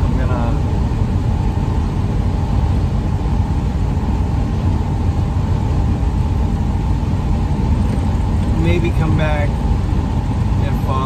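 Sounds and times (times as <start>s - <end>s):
van road and engine rumble: 0.0s - 11.0s.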